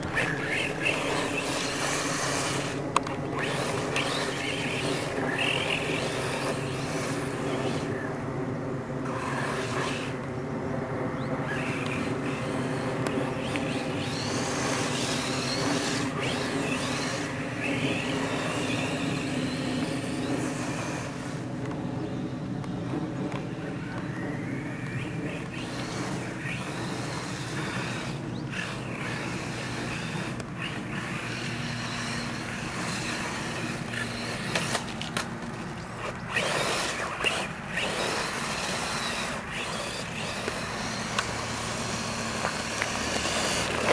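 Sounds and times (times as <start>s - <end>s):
toy truck motor whining: 0.0s - 8.2s, 9.0s - 10.3s, 11.1s - 43.9s.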